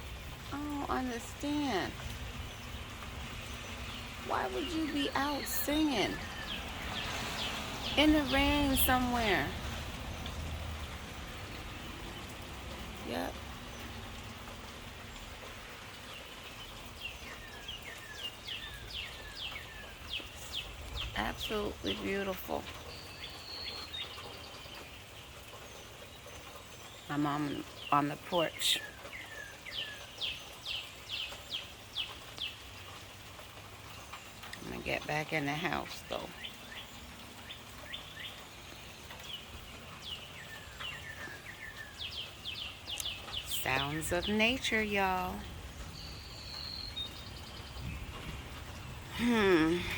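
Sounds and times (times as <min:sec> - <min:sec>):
rain falling: 0:00.0 - 0:49.9
songbirds chirping: 0:00.0 - 0:49.9.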